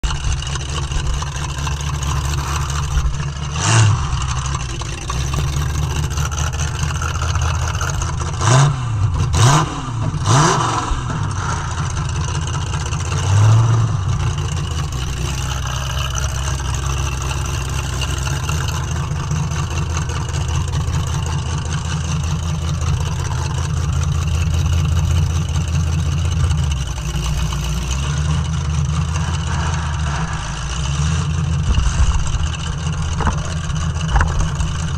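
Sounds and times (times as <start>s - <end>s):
car engine revving loud: 0.7s - 34.9s.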